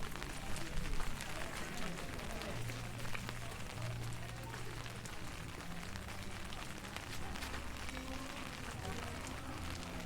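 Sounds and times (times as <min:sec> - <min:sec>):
rain falling and splashing: 0:00.0 - 0:10.0.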